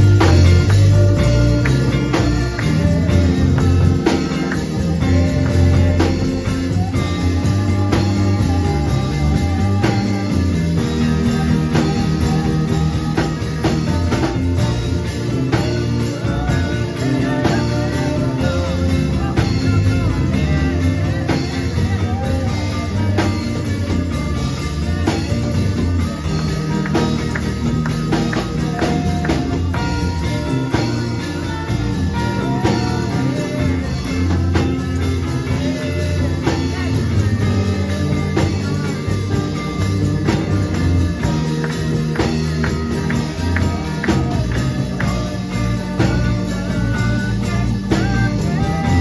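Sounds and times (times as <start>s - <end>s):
drum kit hits: 0.0s - 49.0s
electric guitars: 0.0s - 49.0s
heavy low bass line: 0.0s - 49.0s
keyboard: 0.0s - 49.0s.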